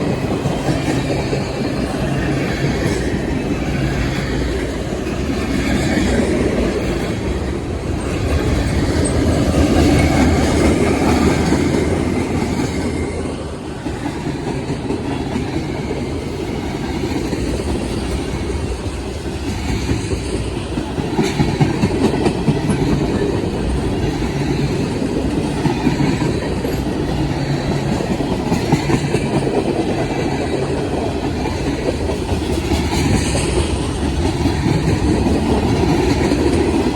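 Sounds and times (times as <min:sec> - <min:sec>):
freight train rumble: 0:00.0 - 0:36.9.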